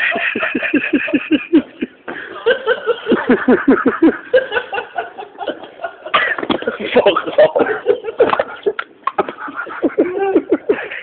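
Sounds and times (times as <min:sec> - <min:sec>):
person laughing hard: 0:00.0 - 0:11.0.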